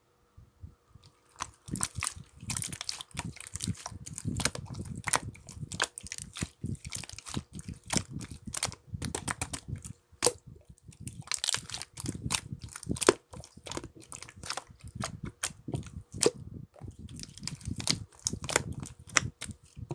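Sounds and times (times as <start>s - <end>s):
slime squeezed by hand: 1.0s - 19.9s.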